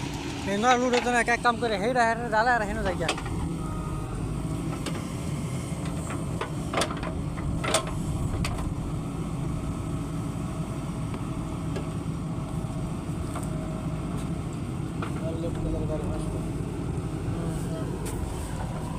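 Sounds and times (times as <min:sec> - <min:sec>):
diesel engine running under work: 0:00.0 - 0:18.9.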